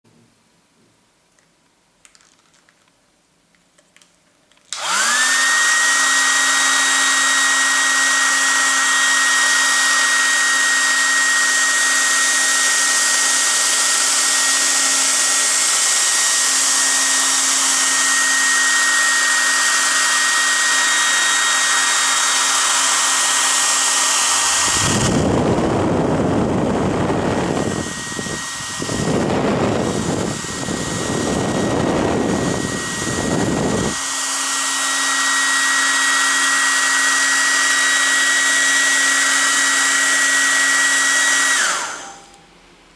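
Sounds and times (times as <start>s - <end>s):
rush of air from hair dryer: 4.7s - 42.5s
hair dryer motor whine: 4.7s - 42.6s.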